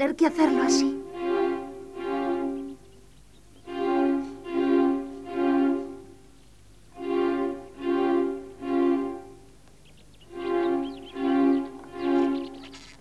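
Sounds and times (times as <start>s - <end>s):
slow melody of held notes: 0.0s - 13.0s.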